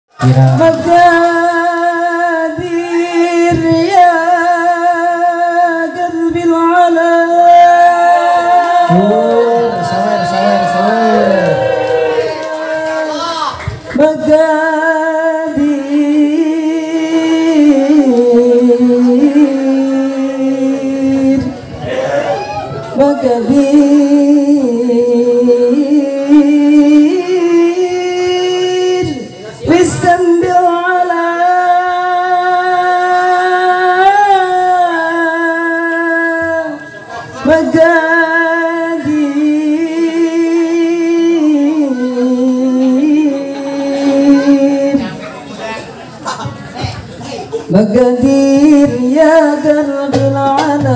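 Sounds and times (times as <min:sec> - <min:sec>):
man singing into microphone: 0:00.1 - 0:45.4, 0:47.5 - 0:50.9.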